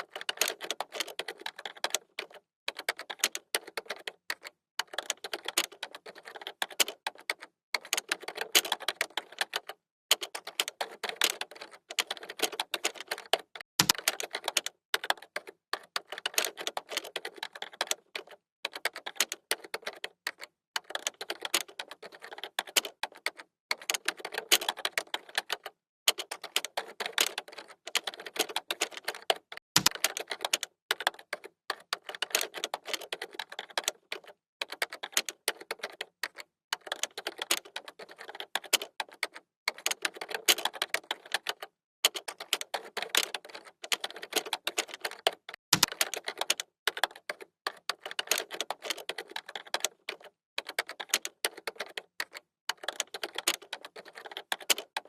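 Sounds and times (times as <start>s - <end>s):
keyboard typing clicks: 0.0s - 55.0s.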